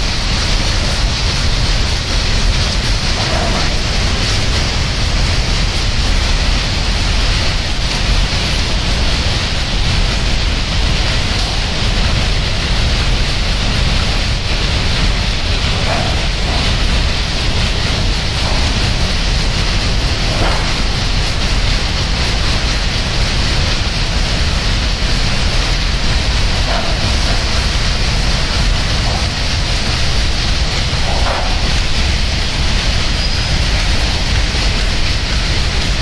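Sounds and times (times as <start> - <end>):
steady loud hiss: 0.0 - 36.0.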